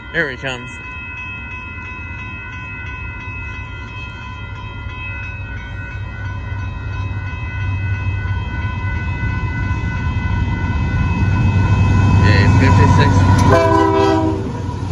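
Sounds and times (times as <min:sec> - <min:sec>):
freight train rumble: 0:00.0 - 0:14.9
steady high ringing tone: 0:00.0 - 0:14.9.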